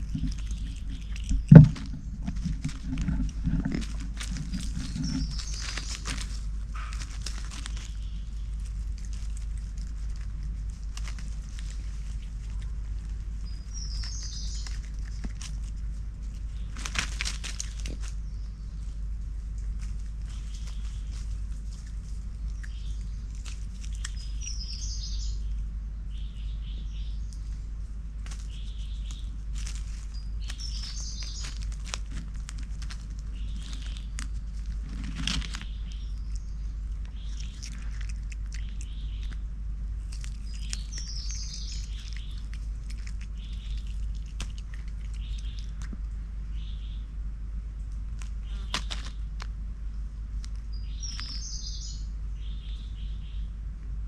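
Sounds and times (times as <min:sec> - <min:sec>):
rustle of dry leaf litter: 0:00.0 - 0:25.5, 0:26.2 - 0:47.0, 0:48.0 - 0:53.4
small birds chirping: 0:00.0 - 0:54.0
steady low rumble: 0:00.0 - 0:54.0.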